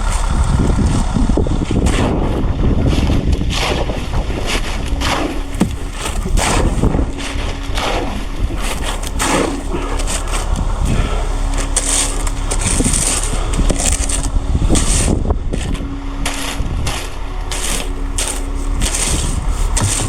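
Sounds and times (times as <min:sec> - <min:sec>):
engine hum: 0:00.0 - 0:20.0
wind buffeting microphone: 0:00.0 - 0:20.0.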